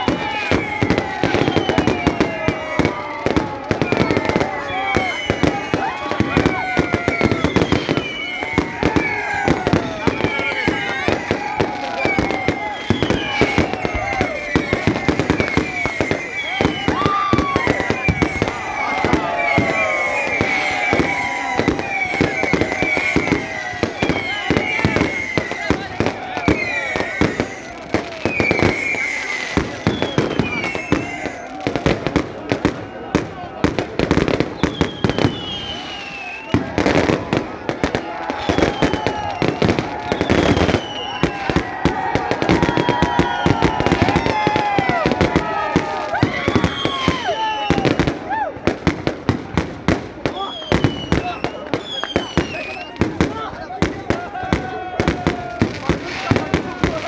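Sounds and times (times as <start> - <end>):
falling whistling fireworks: 0.0 - 57.0
fireworks bangs and cracks: 0.0 - 57.0.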